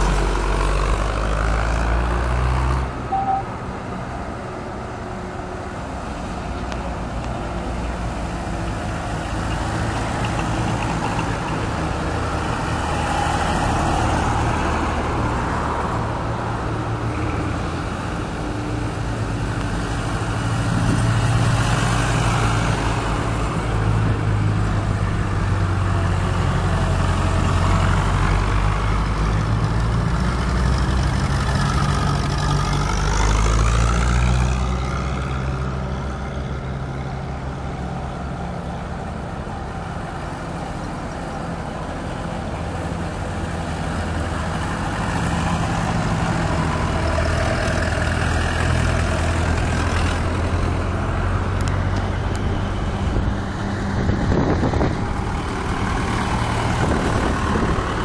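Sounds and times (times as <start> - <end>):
tractor engines running: 0.0 - 58.0.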